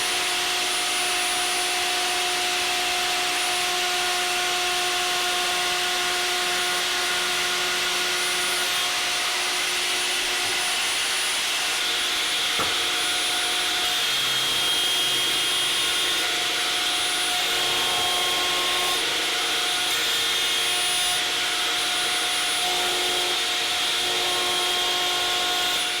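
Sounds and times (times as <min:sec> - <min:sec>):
table router trimming wood: 0:00.0 - 0:26.0.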